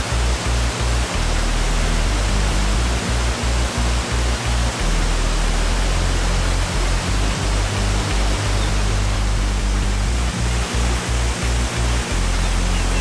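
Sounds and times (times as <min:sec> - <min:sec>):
music with pulsing bass: 0:00.0 - 0:13.0
waterfall rushing: 0:00.0 - 0:13.0.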